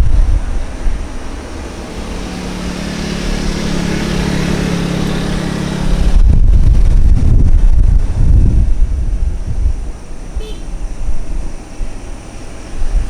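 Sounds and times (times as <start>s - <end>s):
jet airliner engines roaring: 0.0s - 13.0s
wind buffeting microphone: 0.0s - 13.0s.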